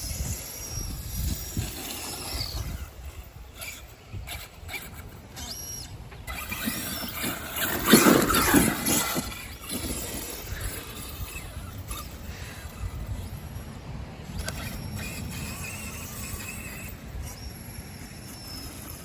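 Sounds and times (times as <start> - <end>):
toy truck electric motor whining: 0.0 - 19.0.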